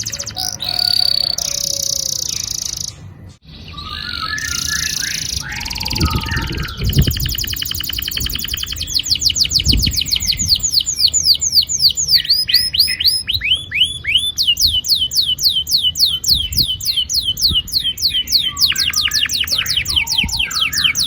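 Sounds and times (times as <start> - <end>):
canary singing trills: 0.0 - 21.0.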